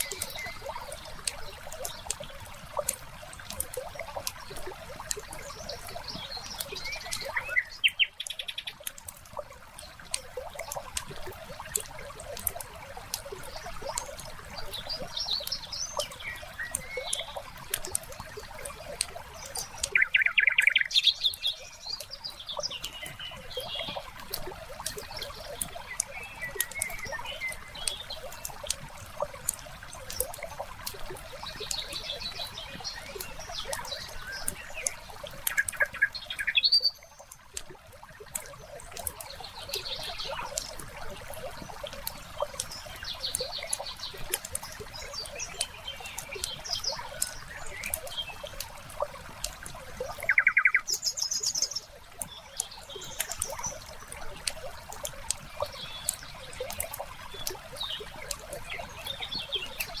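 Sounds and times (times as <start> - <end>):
birds chirping: 0.0 - 60.0
water trickling: 0.0 - 60.0.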